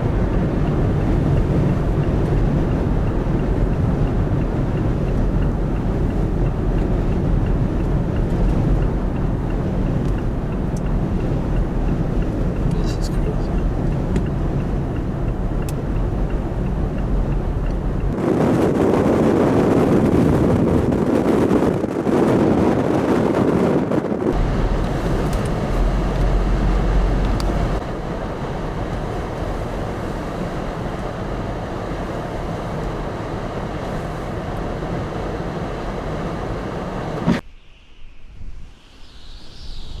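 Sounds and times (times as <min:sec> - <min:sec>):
deep rumble: 0:00.0 - 0:37.4
wind buffeting microphone: 0:00.0 - 0:37.4.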